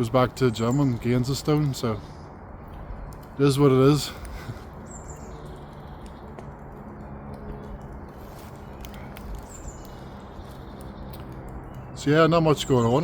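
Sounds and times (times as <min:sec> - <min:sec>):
bird chirp: 0:00.0 - 0:13.0
outdoor background noise: 0:00.0 - 0:13.0.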